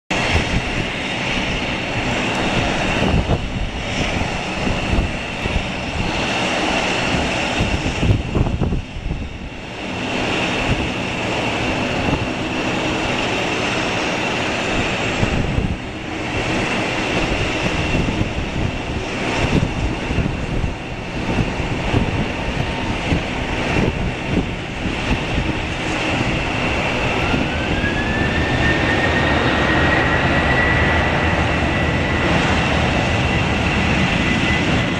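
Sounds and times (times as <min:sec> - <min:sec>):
jet engines whining: 0:00.1 - 0:34.9
rising engine whine: 0:00.2 - 0:34.9.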